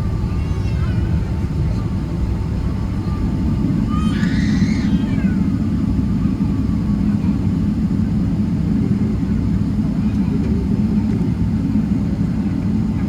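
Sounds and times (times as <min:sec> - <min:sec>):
airliner engines idling: 0:00.0 - 0:13.0.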